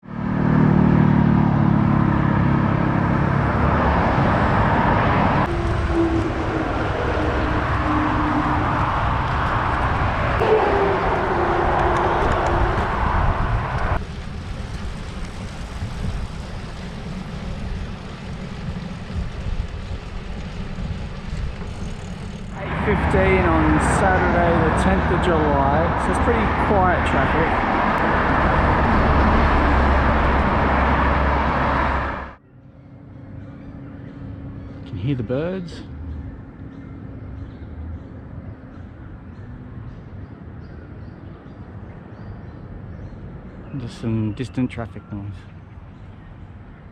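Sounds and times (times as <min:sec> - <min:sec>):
distant traffic rumble: 0:00.0 - 0:46.9
passing motor vehicles: 0:00.0 - 0:46.9
wind: 0:00.0 - 0:46.9.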